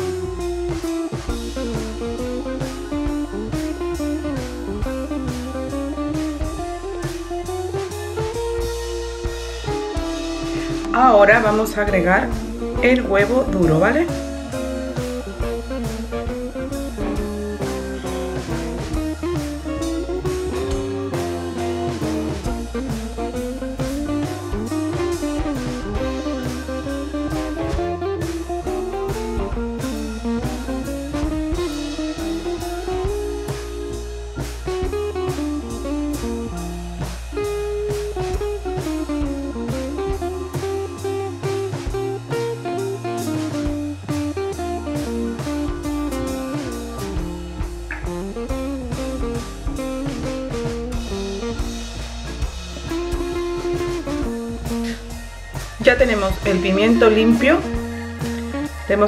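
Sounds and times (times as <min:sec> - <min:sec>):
drum beat: 0:00.0 - 0:59.0
guitar melody: 0:00.0 - 0:59.0.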